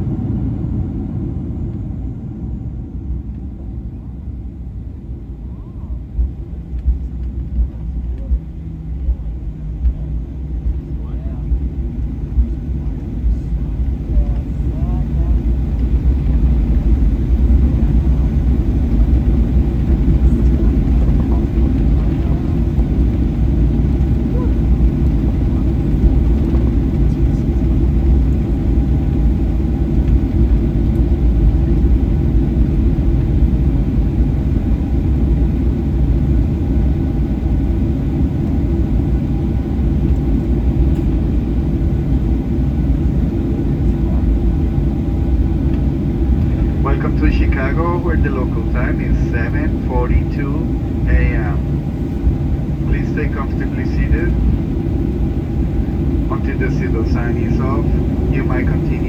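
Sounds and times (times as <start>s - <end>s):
airplane cabin rumble taxiing: 0.0s - 59.0s.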